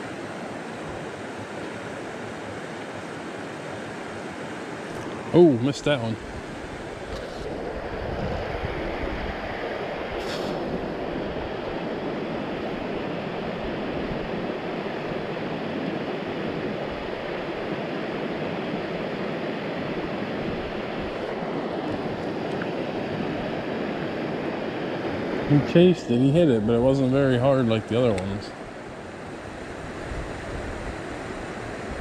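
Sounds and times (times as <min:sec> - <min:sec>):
stream running water: 0:00.0 - 0:32.0.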